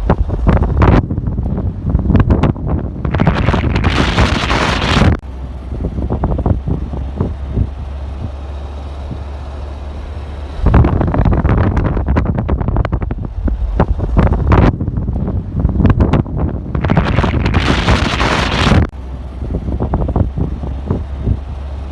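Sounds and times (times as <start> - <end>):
wind buffeting microphone: 0.0 - 9.5, 10.5 - 21.9.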